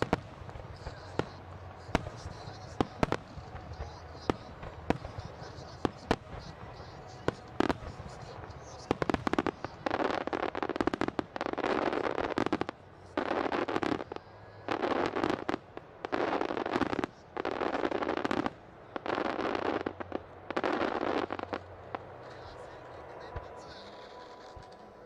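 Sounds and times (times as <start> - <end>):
crackling firework shells: 0.0 - 25.0.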